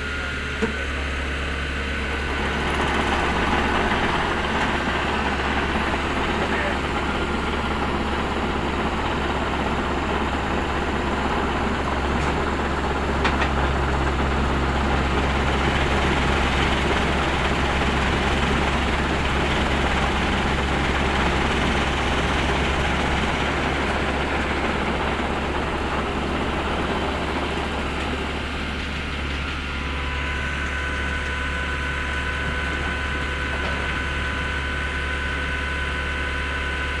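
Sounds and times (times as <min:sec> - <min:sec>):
diesel engine and vibrating screen drone: 0:00.0 - 0:37.0
thin steady whine: 0:00.0 - 0:37.0.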